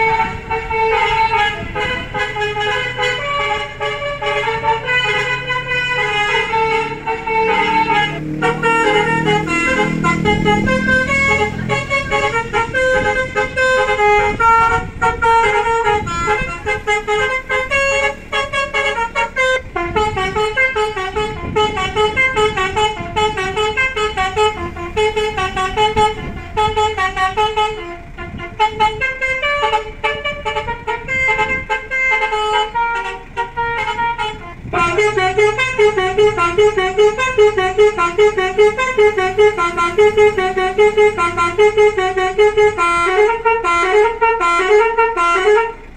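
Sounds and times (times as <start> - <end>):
multi-trumpet melody horn tune: 0.0 - 45.9.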